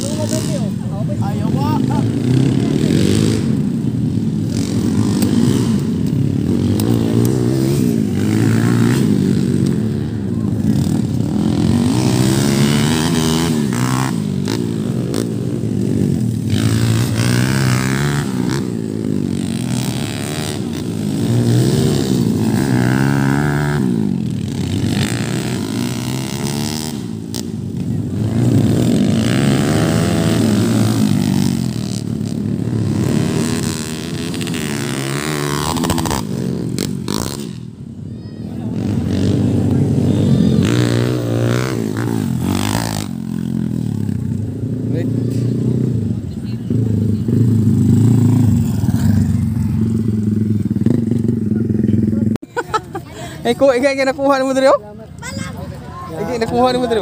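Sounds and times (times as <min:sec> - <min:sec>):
racing motorcycles revving: 0:00.0 - 0:57.0.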